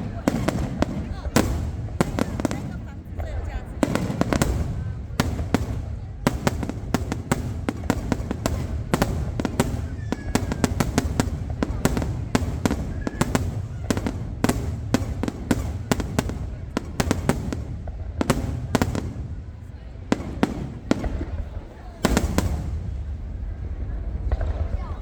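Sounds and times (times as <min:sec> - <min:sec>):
continuous low rumble: 0:00.0 - 0:25.0
fireworks bursting with sharp bangs: 0:00.0 - 0:25.0.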